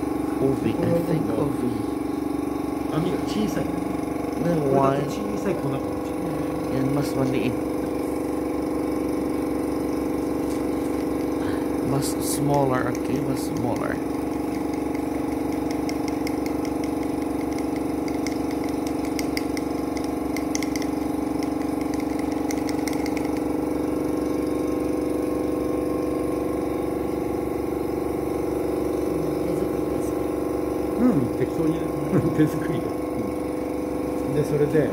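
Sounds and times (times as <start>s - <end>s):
steady mechanical hum: 0.0s - 34.9s.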